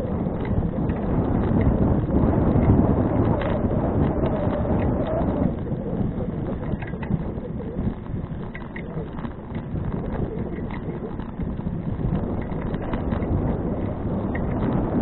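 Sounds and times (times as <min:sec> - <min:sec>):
bicycle knocks and rattles: 0:00.0 - 0:15.0
wind rumbling on microphone: 0:00.0 - 0:15.0.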